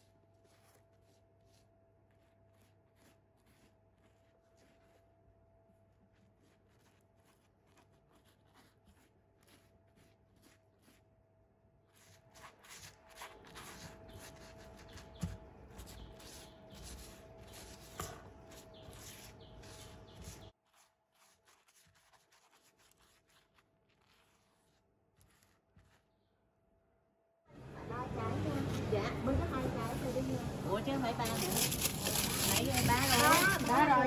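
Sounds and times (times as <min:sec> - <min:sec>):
scratchy rubbing: 0:00.0 - 0:26.3, 0:29.5 - 0:34.0.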